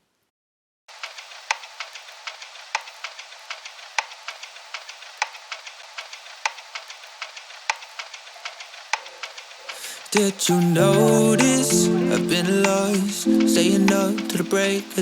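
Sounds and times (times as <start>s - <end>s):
vinyl crackle with pops: 1.0s - 15.0s.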